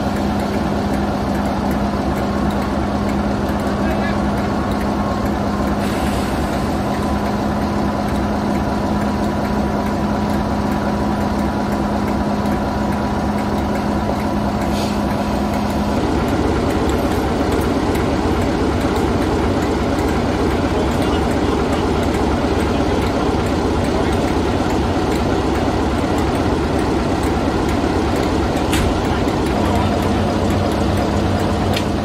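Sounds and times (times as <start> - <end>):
diesel locomotive idling: 0.0 - 32.0.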